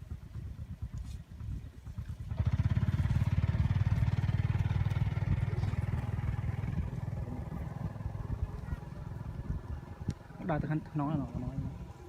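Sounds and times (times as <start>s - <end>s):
small engine running: 1.8s - 12.0s.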